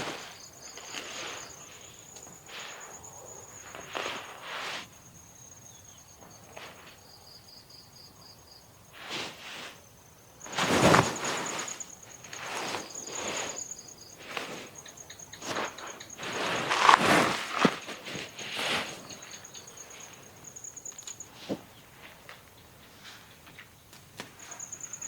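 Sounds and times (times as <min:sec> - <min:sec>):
rustling and shuffling: 0:00.0 - 0:05.0, 0:06.1 - 0:07.1, 0:09.0 - 0:25.0
crickets trilling: 0:00.0 - 0:25.0.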